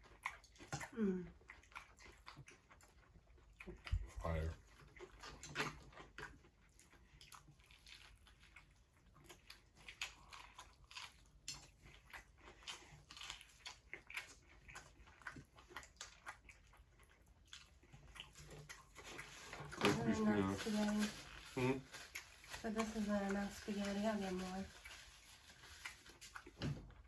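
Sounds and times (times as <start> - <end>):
chewing and biting food: 0.0 - 23.7, 24.6 - 27.0
soft crunches and mouth clicks: 0.2 - 19.9, 24.8 - 27.0.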